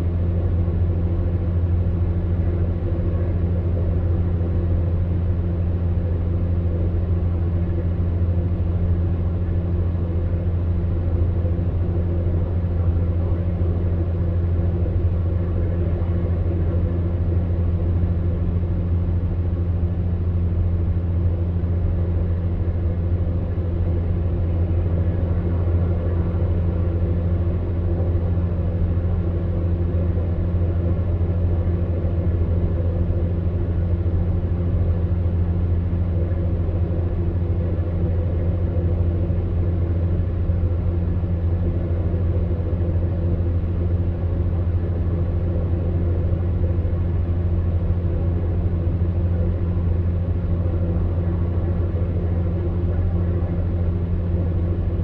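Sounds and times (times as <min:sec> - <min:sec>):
electric fan heater humming: 0:00.0 - 0:55.0.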